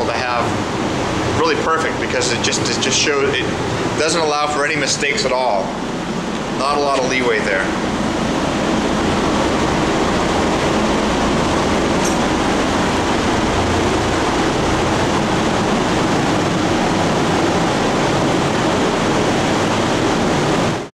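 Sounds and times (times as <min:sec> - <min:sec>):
loud rushing noise: 0:00.0 - 0:20.9.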